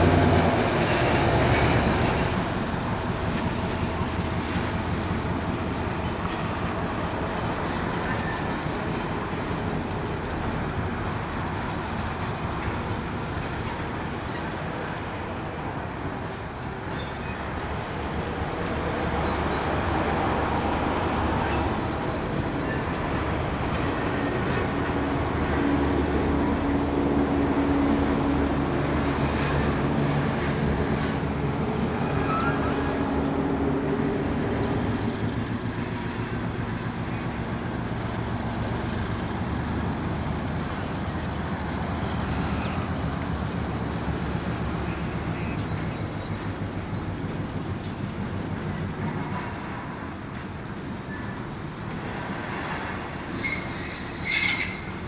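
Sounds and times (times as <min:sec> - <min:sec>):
diesel locomotive engine under load: 0:00.0 - 0:55.0.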